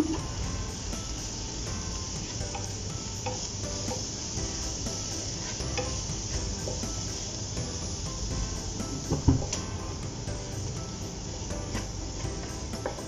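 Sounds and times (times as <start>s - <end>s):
hot pan sizzling: 0.0s - 13.0s.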